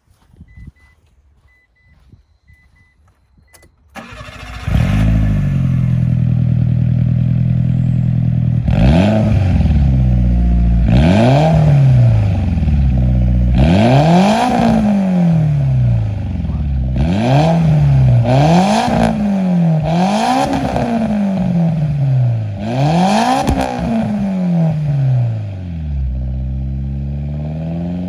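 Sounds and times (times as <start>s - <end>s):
car engine starting and revving: 3.9s - 28.0s.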